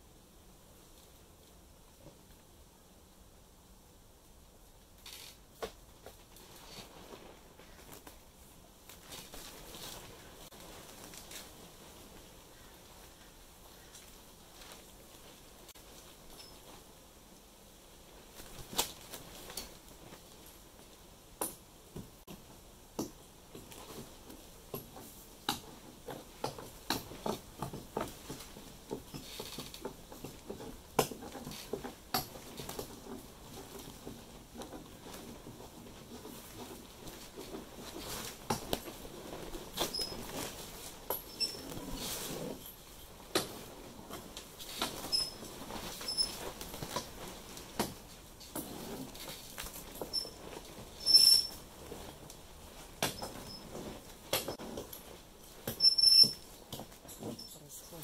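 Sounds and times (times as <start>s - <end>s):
cloth rustling and scratching: 5.0s - 21.2s, 23.5s - 58.0s.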